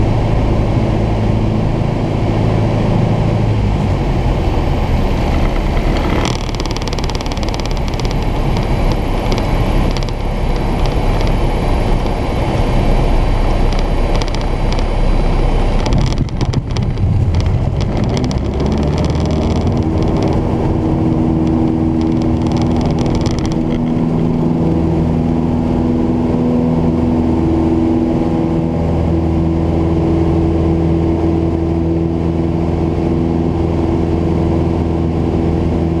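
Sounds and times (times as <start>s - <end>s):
propeller plane engine droning: 0.0s - 36.0s
wheels rumbling on runway: 0.0s - 36.0s.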